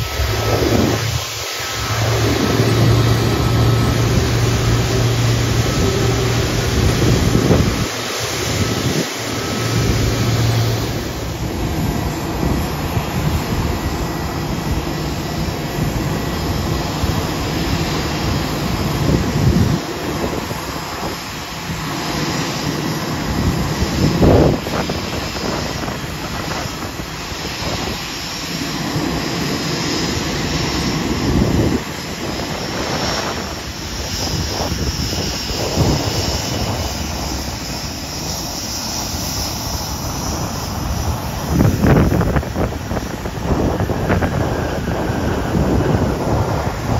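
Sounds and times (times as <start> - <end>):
high jet whine: 0.0 - 46.9
jet engines taxiing: 0.0 - 46.9.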